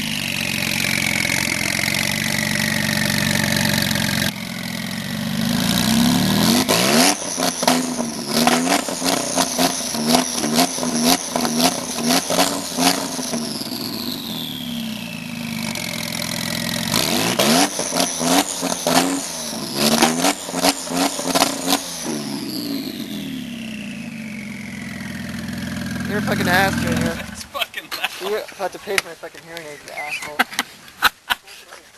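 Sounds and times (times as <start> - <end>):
car engine revving: 0.0 - 27.6
exhaust cracks: 0.0 - 30.3.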